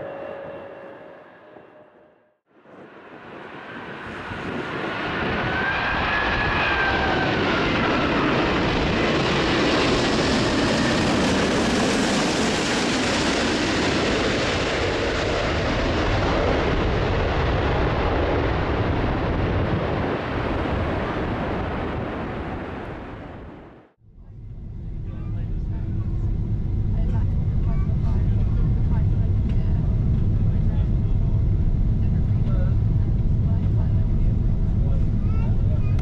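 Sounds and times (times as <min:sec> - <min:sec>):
jet airliner flying past: 0:02.6 - 0:36.0.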